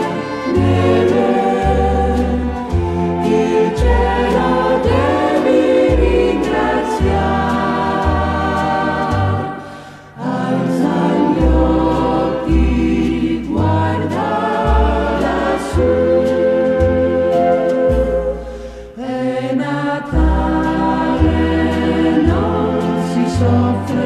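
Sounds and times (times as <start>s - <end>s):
choir singing held notes: 0.0s - 24.0s.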